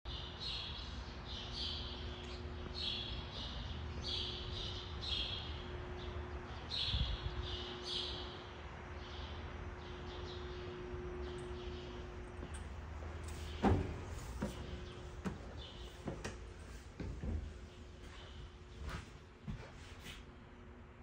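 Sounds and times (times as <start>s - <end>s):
faint steady hum: 0.1s - 21.0s.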